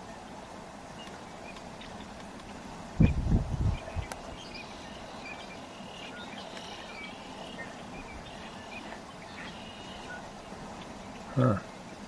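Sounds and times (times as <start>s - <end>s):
distant small birds chirping: 0.0s - 12.0s
outdoor background hiss: 0.0s - 12.0s.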